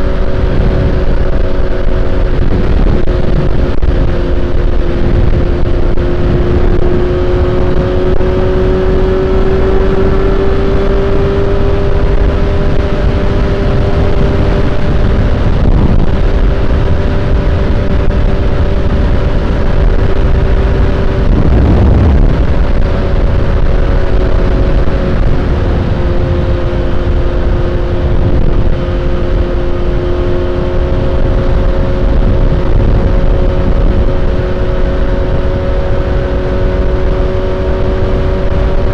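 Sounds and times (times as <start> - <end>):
motorcycle engine whine: 0.0 - 38.9
wind rush on microphone: 0.0 - 38.9.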